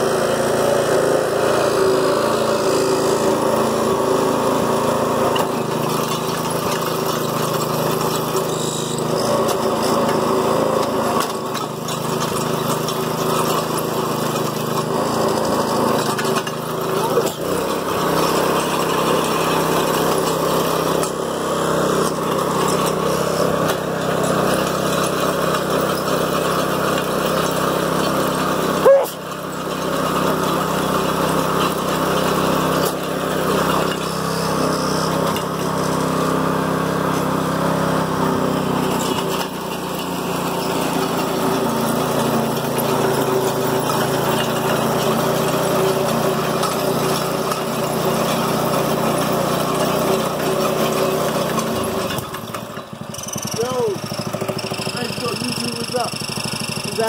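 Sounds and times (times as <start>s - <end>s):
digging chain cutting soil: 0.0s - 57.0s
small gasoline engine running: 0.0s - 57.0s.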